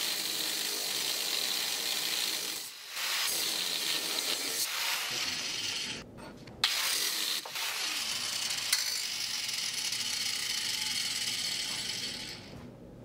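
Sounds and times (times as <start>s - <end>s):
angle grinder cutting steel: 0.0s - 6.0s, 6.7s - 12.5s.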